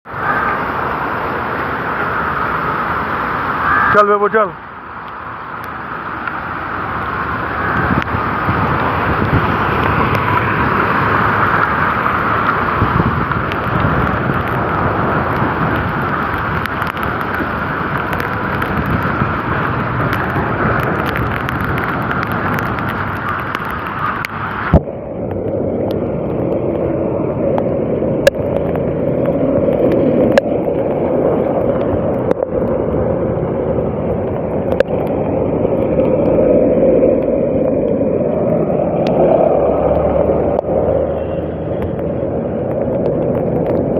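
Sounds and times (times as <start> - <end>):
vehicle rushing in rain: 0.0 - 43.9.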